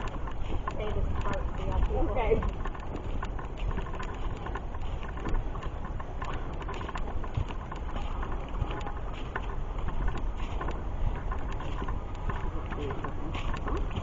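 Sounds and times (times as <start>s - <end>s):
footsteps on dirt trail: 0.0s - 14.0s
wind rumble: 0.0s - 14.0s.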